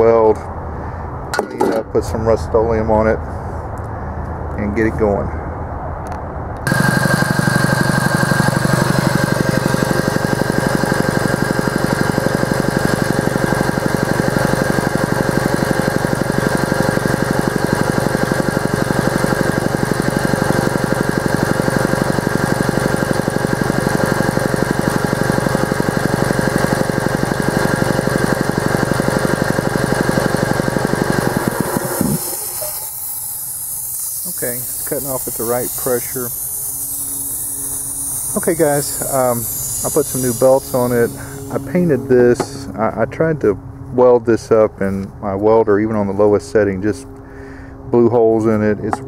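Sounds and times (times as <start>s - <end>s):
air compressor running: 0.8s - 2.0s, 6.6s - 45.1s, 47.0s - 49.0s.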